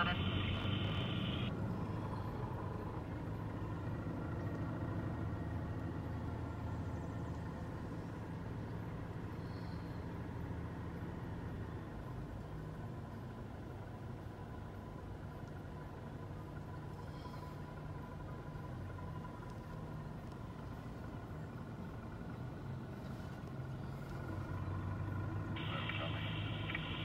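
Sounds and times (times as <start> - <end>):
faint steady tone: 0.0 - 27.0
vehicle engines idling: 0.0 - 27.0.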